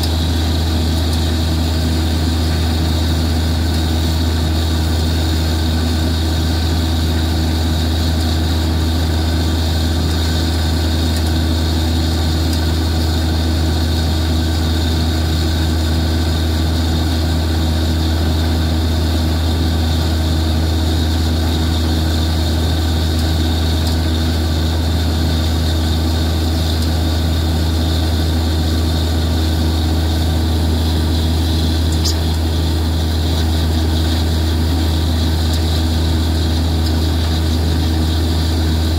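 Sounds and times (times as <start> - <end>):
drilling rig engine drone: 0.0 - 38.9.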